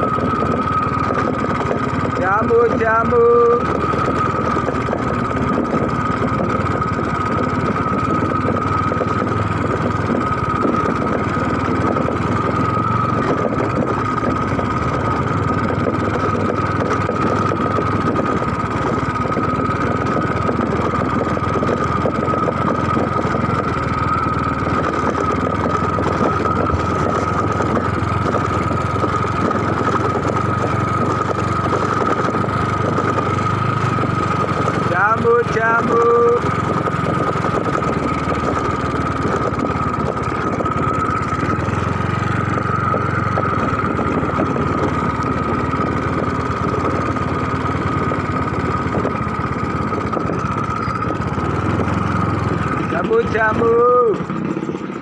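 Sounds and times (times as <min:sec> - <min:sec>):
motor engine running: 0:00.0 - 0:55.0.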